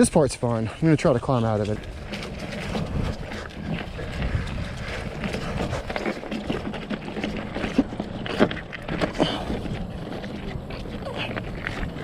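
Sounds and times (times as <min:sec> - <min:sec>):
bike frame rattling: 0:00.0 - 0:12.0
bike tyres on dirt trail: 0:00.0 - 0:12.0.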